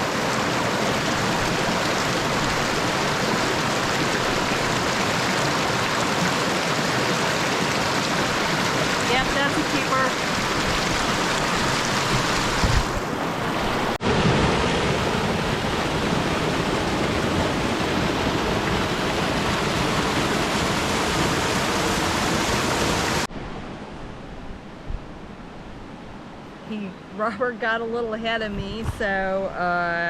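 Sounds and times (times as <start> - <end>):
creek water rushing: 0.0 - 24.4.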